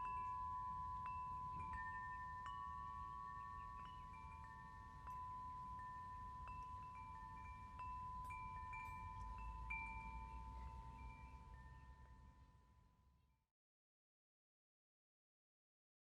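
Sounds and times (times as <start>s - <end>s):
soft chime tones: 0.0s - 13.1s.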